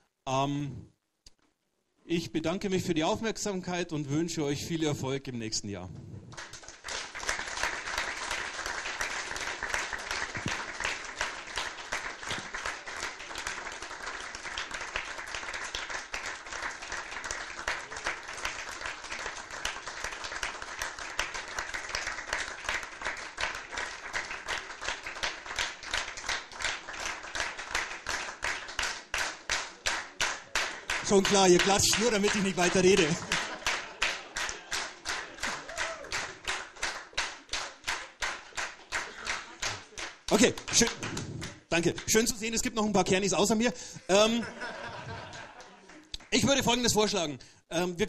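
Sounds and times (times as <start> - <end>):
audience applauding: 6.3 - 42.6, 44.6 - 47.0.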